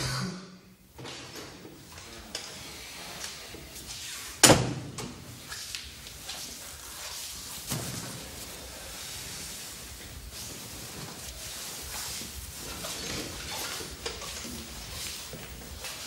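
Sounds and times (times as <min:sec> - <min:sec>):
steady hiss: 0:00.8 - 0:16.0.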